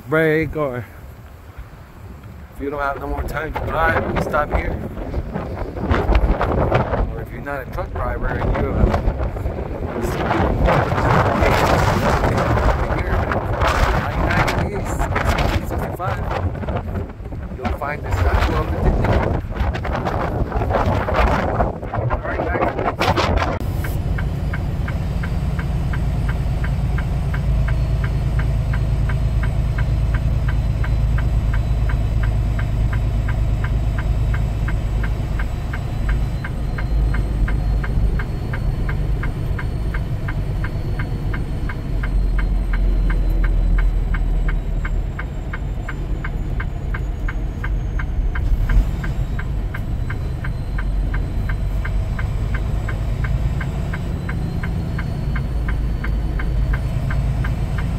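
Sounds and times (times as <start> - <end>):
diesel truck engine droning: 0.0 - 57.9
fast even ticking: 2.6 - 57.9.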